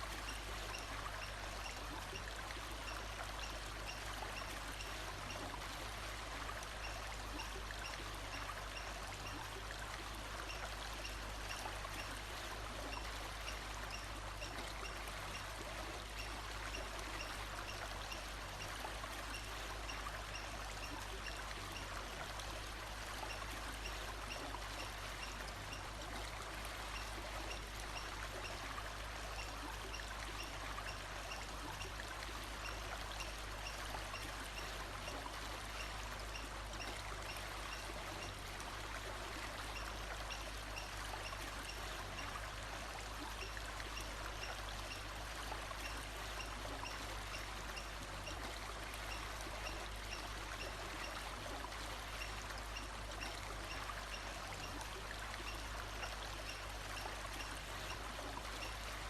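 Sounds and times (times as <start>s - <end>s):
forest stream rushing: 0.0s - 59.0s.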